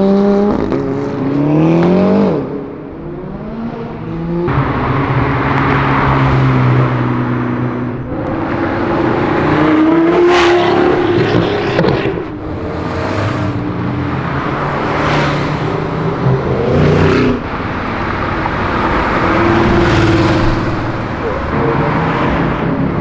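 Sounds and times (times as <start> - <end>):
cars accelerating past: 0.0 - 23.0.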